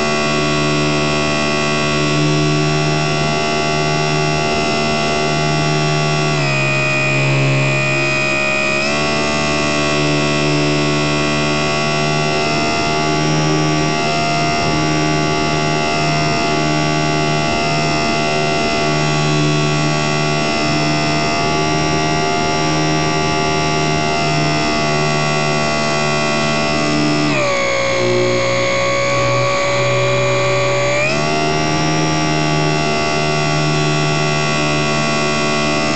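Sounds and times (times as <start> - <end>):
model plane motor whining: 0.0 - 35.9.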